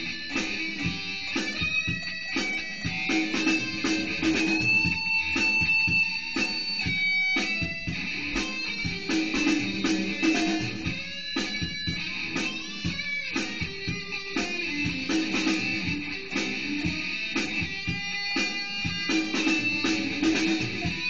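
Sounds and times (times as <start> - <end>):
drum machine beat: 0.0 - 21.0
electric guitar playing lead: 0.0 - 21.0.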